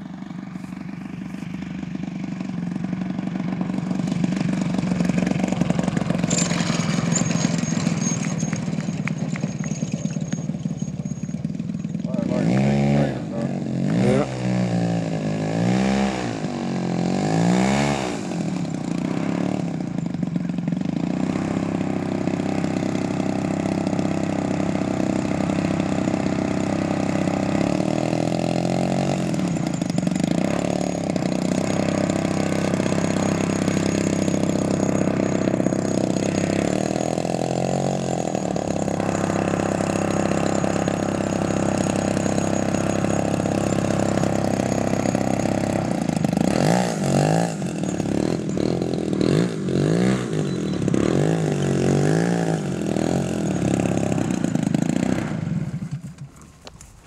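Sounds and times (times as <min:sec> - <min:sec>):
model airplane engine running: 0:00.0 - 0:57.0.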